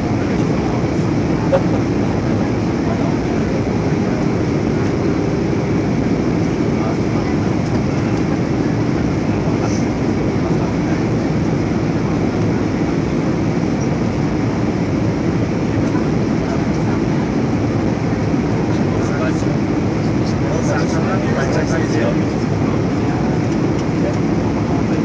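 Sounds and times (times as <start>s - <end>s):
airplane cabin rushing noise: 0.0s - 25.0s.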